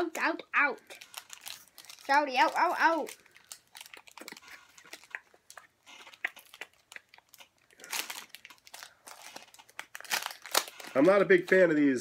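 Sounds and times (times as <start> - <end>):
foil wrappers crinkling: 0.6 - 12.0.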